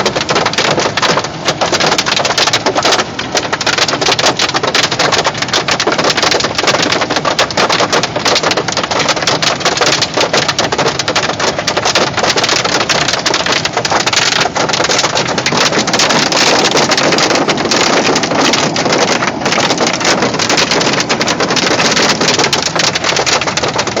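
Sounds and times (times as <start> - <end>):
hailstones pelting car body: 0.0 - 24.0.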